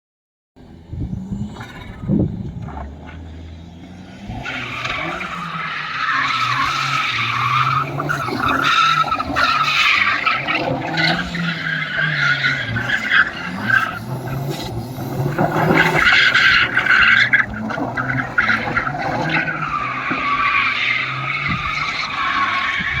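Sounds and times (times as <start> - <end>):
car engine revving: 0.6 - 23.0
tyres spinning on dirt: 1.1 - 23.0.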